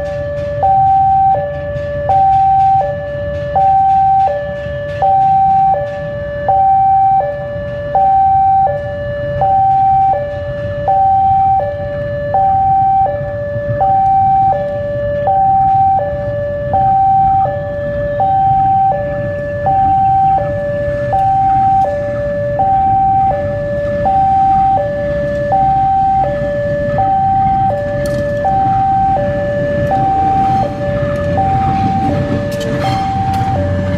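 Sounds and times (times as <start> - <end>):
diesel locomotive rumble: 0.0 - 33.9
electronic two-tone warning alarm: 0.0 - 33.9.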